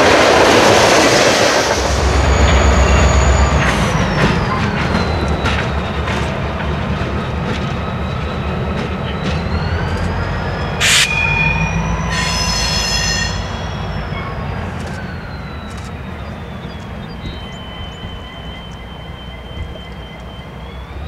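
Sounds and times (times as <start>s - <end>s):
train cars rumbling: 0.0s - 21.0s
wheel squeal: 0.0s - 21.0s.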